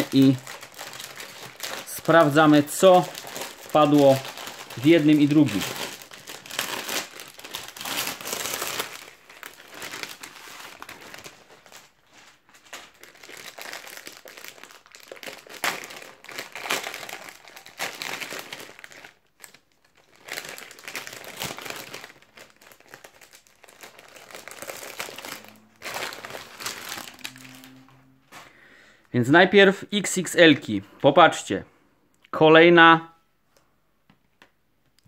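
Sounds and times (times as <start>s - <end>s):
foil packaging crinkling: 0.0s - 28.5s.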